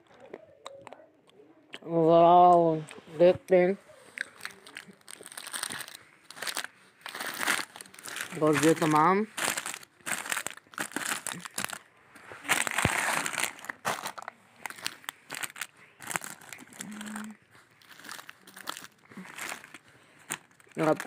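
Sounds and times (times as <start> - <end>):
snack wrappers crinkling: 4.0 - 21.0.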